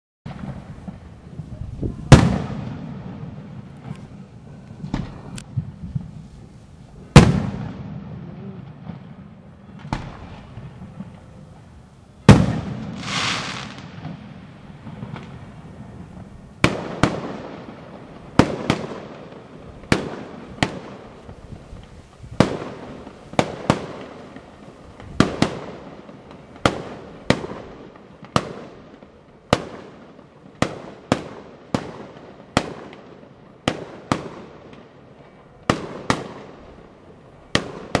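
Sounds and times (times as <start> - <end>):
fireworks banging: 0.3 - 38.0.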